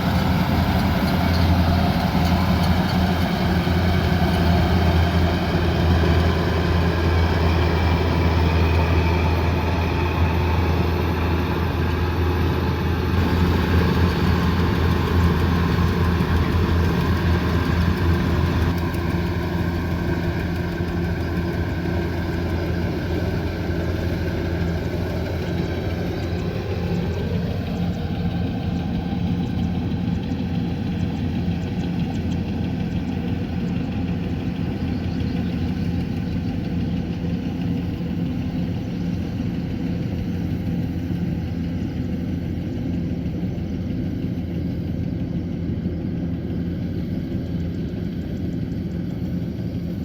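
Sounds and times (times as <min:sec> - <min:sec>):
diesel engine humming: 0:00.0 - 0:50.0.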